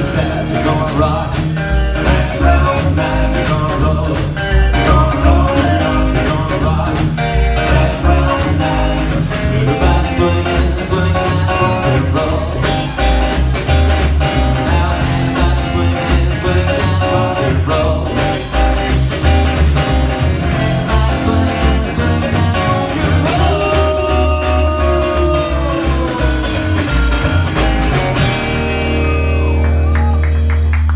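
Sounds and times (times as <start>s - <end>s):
person singing lead vocal: 0.0s - 13.4s, 14.3s - 19.0s, 20.5s - 27.3s
electric guitar: 0.0s - 30.9s
upright double bass: 0.0s - 30.9s.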